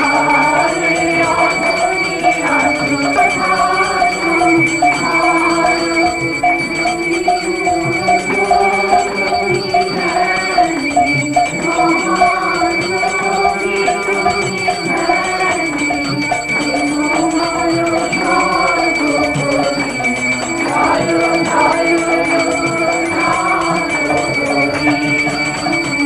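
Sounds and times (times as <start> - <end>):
hand percussion rhythm: 0.0 - 26.0.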